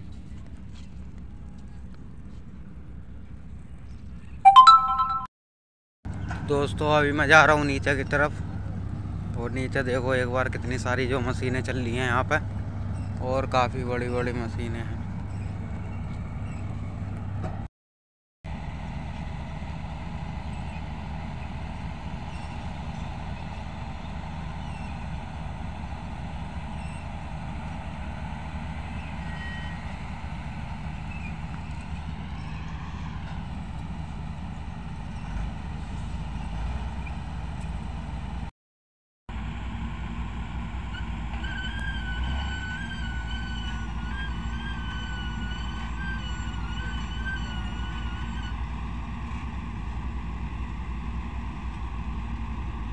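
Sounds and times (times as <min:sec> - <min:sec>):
heavy diesel machinery rumbling: 0:06.1 - 0:17.6, 0:18.5 - 0:38.5, 0:39.3 - 0:52.9.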